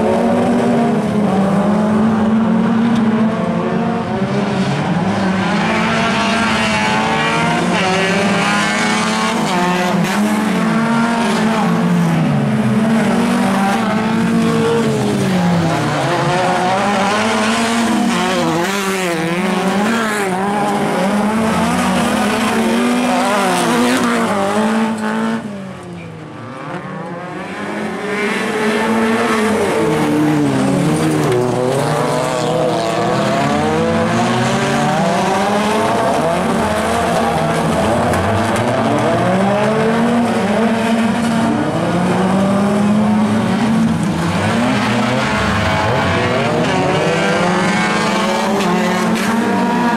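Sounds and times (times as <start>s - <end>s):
racing car engines revving: 0.0s - 49.9s.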